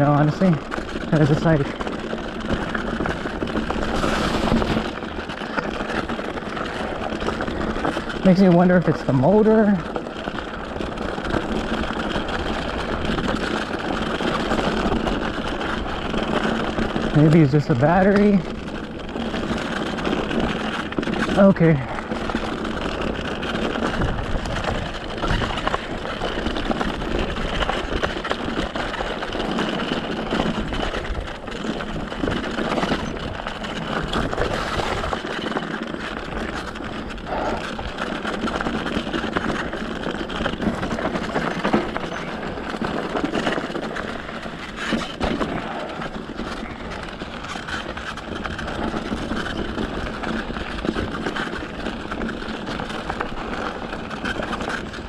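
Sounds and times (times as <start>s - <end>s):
bike rattles and crunches: 0.0s - 55.0s
bike tyre and wind noise: 0.0s - 55.0s.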